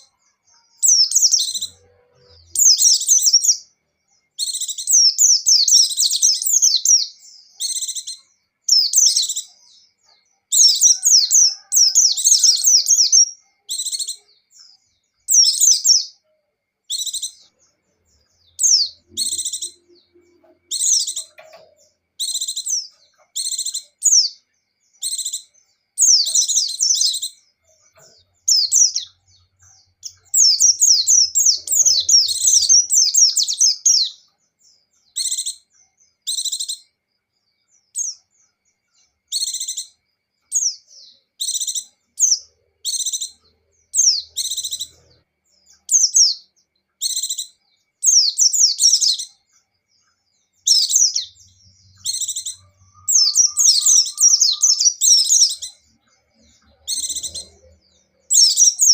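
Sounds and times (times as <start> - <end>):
bird continuous trilling: 0.0 - 58.9
white-eye bird twittering: 4.3 - 16.2, 16.9 - 24.4, 25.0 - 34.3, 35.0 - 36.9, 39.0 - 49.5, 50.6 - 58.9.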